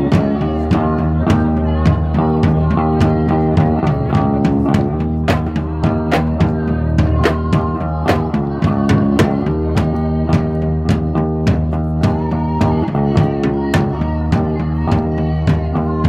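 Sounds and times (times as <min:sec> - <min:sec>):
drum and cymbal hits: 0:00.0 - 0:16.0
electric bass: 0:00.0 - 0:16.0.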